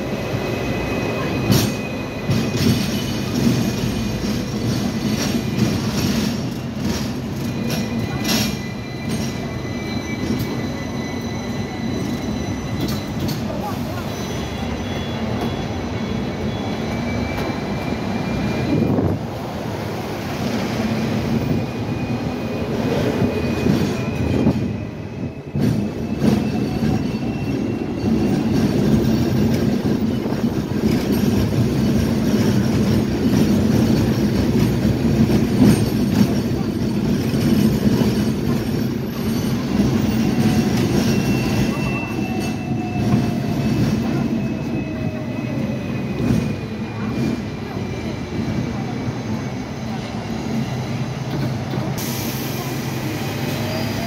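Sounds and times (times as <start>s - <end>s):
tram wheels rumbling on track: 0.0s - 54.0s
wheels squealing: 0.1s - 52.0s.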